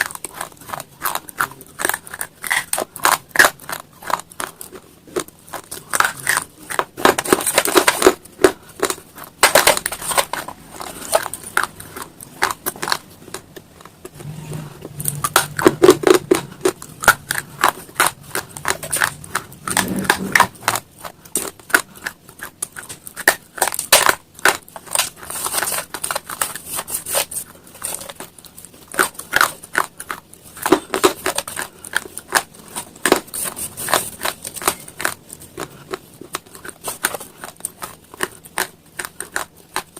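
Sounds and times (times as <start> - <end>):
chewing stone crunching: 0.0 - 39.9.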